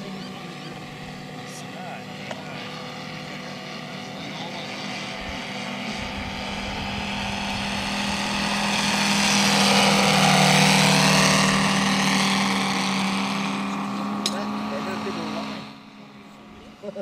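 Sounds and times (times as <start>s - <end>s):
model plane radial engine: 0.0s - 17.0s.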